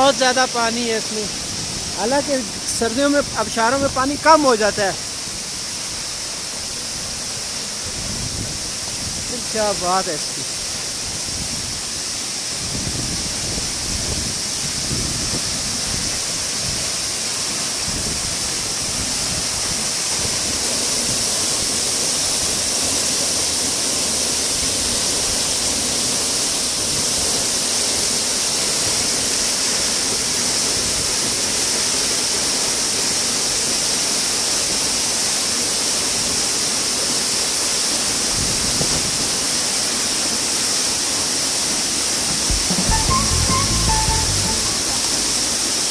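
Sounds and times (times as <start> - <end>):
waterfall rushing onto rocks: 0.0 - 41.7.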